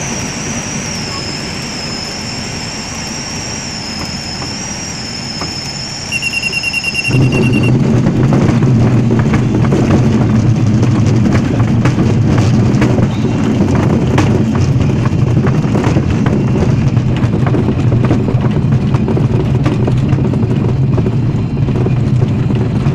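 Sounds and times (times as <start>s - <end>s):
propeller aircraft engine drone: 0.0s - 22.9s.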